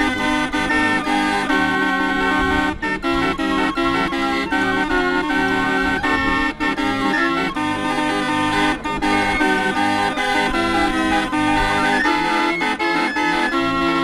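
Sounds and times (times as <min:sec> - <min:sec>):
barrel organ playing: 0:00.0 - 0:14.0.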